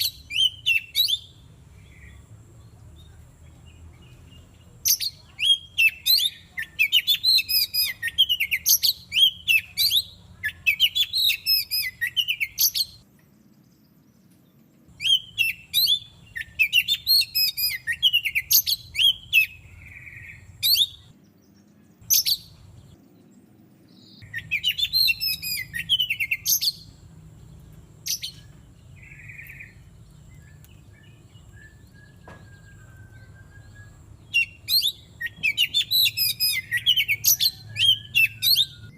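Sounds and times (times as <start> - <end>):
bird singing whistled notes: 0.0 - 14.3, 14.9 - 21.2, 22.0 - 23.0, 23.9 - 38.9.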